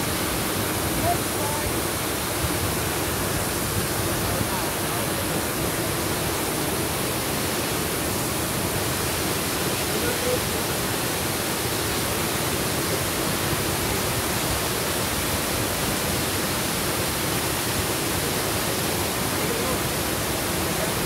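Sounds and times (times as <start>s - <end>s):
waterfall rushing into pool: 0.0s - 21.0s.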